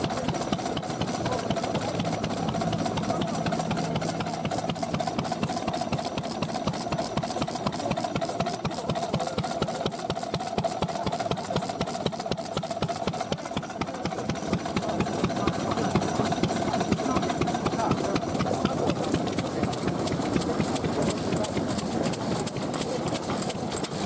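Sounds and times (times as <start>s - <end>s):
stationary engine running: 0.0s - 24.0s.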